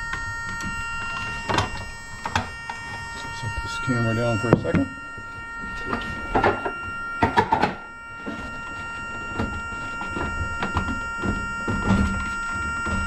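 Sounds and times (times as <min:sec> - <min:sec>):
steady high tone: 0:00.0 - 0:13.0.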